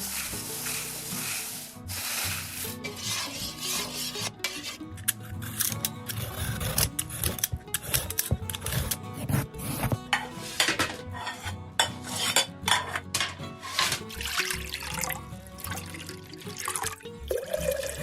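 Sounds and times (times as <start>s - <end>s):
spatula scraping in a pan: 0.0s - 14.5s
background music: 0.0s - 18.0s.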